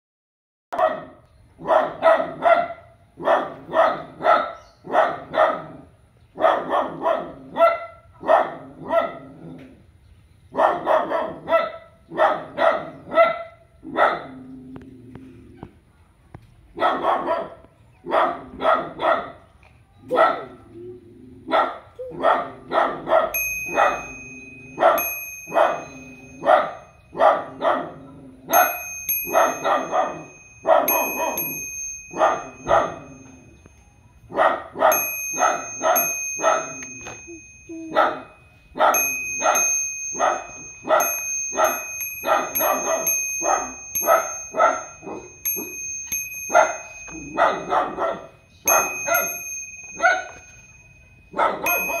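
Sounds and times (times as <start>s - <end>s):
dog barking: 0.7s - 9.5s, 10.5s - 14.4s, 16.7s - 20.7s, 21.4s - 24.2s, 24.8s - 33.2s, 34.3s - 36.9s, 37.9s - 45.8s, 46.5s - 49.4s, 50.0s - 50.4s, 51.3s - 52.0s.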